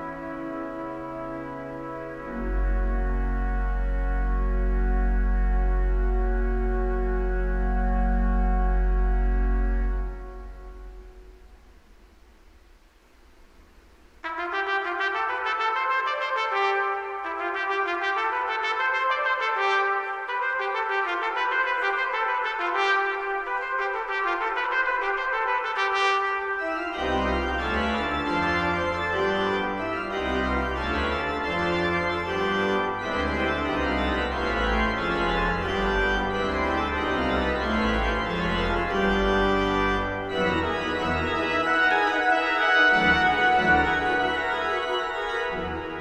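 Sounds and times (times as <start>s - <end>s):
organ: 0.0s - 11.7s, 14.2s - 46.0s
trumpet: 0.0s - 11.7s, 14.2s - 46.0s.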